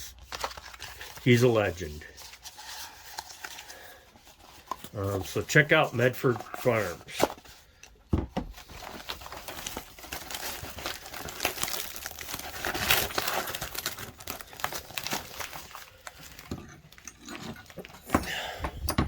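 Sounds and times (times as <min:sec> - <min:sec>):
packing material crinkling: 0:00.0 - 0:18.2.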